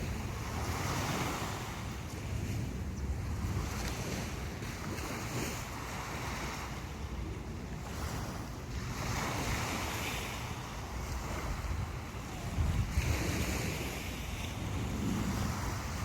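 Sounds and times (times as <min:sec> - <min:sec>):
sea waves breaking on a beach: 0:00.0 - 0:16.0
wind rumbling on microphone: 0:00.0 - 0:16.0.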